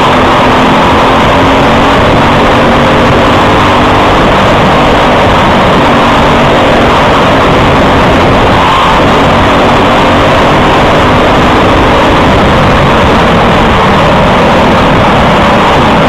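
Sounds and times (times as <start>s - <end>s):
kart engine running: 0.0s - 16.0s
rushing noise: 0.0s - 16.0s.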